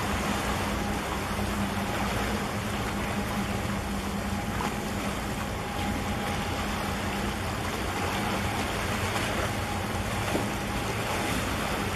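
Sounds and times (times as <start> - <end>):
low ship engine hum: 0.0 - 11.9
water churning against breakwater: 0.0 - 11.9.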